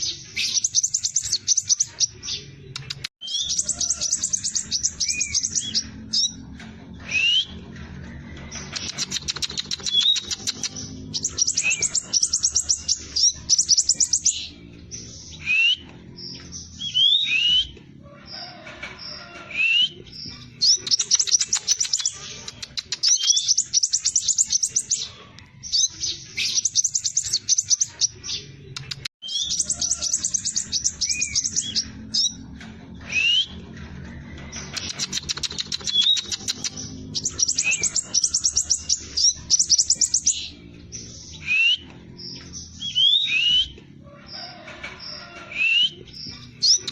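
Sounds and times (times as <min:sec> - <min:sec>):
bird rapid high chirps: 0:00.0 - 0:06.4, 0:08.6 - 0:17.8, 0:19.6 - 0:32.4, 0:34.6 - 0:43.8, 0:45.1 - 0:46.9.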